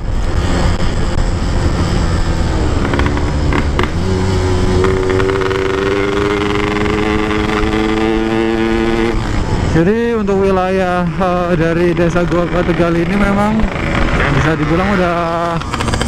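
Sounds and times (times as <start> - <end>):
motorcycle engine under load: 0.0 - 9.8, 11.2 - 16.0
wind rumble on microphone: 0.0 - 16.0.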